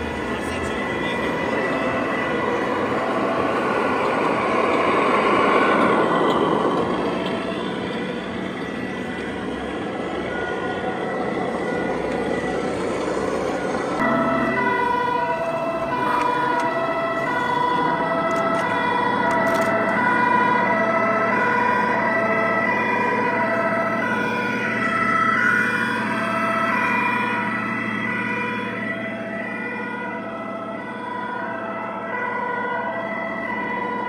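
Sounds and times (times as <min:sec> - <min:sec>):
steady background noise: 0:00.0 - 0:34.0
two-tone siren: 0:00.0 - 0:34.0.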